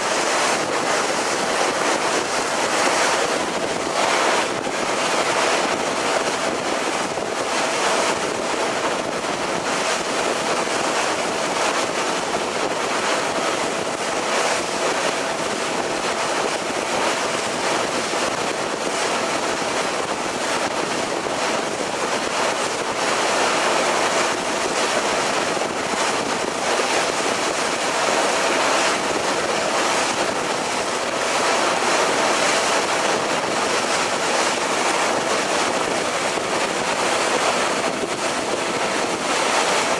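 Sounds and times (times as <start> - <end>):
wind and sea water rushing: 0.0 - 39.9
wind buffeting microphone: 0.0 - 39.9.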